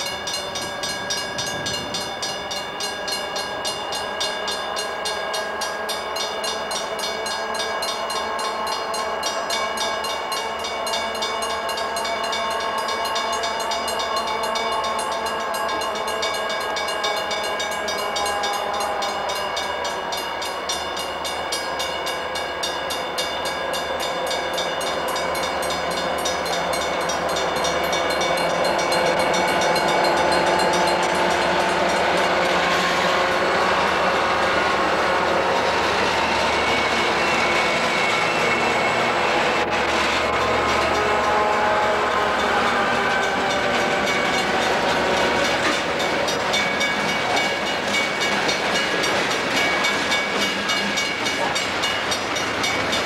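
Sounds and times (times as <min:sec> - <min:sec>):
diesel locomotive whine: 0:00.0 - 0:53.0
train running noise: 0:00.0 - 0:53.0.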